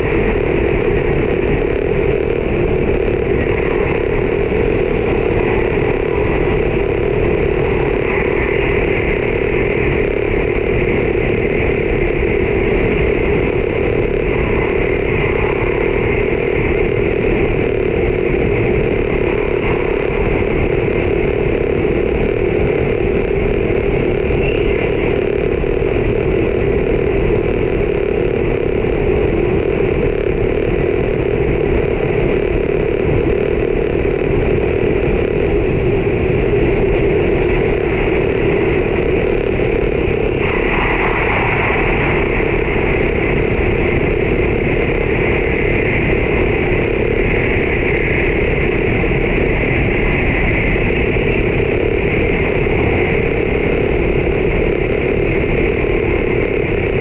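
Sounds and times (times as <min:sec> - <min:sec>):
steady drone: 0:00.0 - 0:57.0.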